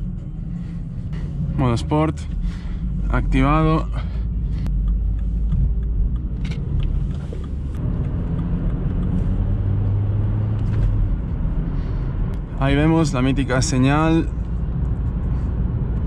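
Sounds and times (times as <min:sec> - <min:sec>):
road and tyre noise: 0:00.0 - 0:16.0
steady engine hum: 0:00.0 - 0:16.0.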